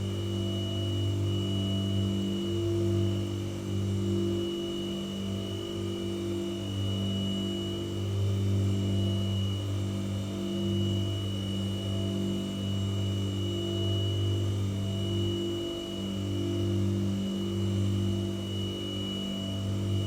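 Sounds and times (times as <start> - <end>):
white noise machine drone: 0.0 - 20.0.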